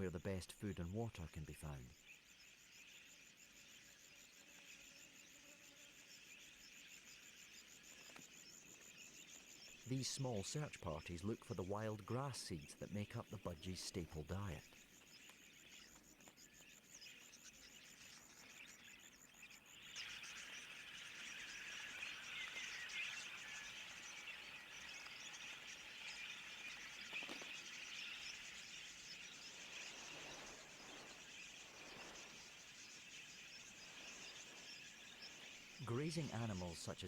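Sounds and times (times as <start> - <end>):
budgerigars chattering: 0.0 - 4.8, 5.4 - 37.0.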